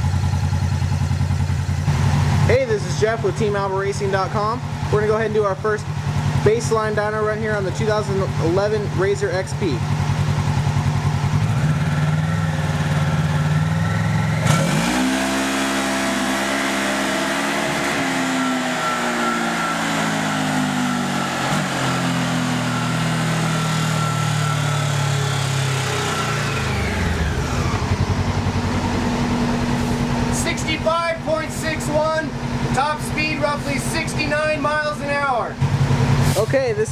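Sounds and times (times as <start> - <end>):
engine revving at full throttle: 1.0 - 36.8.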